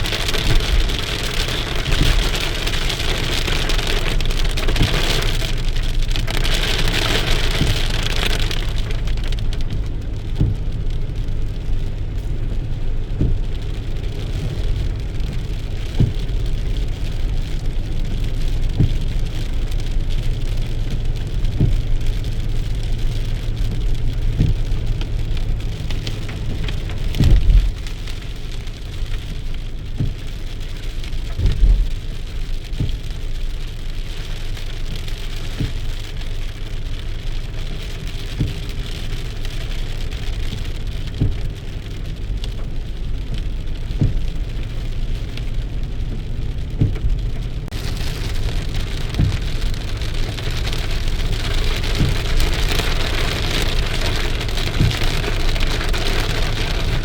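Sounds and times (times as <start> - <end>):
low rumble: 0.0 - 57.0
raindrops striking nearby: 0.0 - 57.0
steady rain hiss: 0.0 - 57.0.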